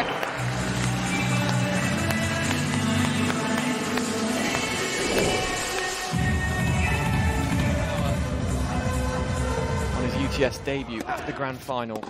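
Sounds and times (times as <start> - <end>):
background music with low bass: 0.3 - 11.4.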